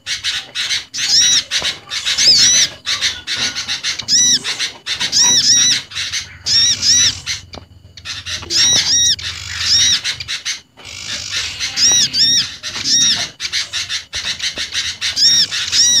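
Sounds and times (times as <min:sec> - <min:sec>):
harsh bird squawking: 0:00.0 - 0:16.0
small birds calling: 0:00.0 - 0:16.0.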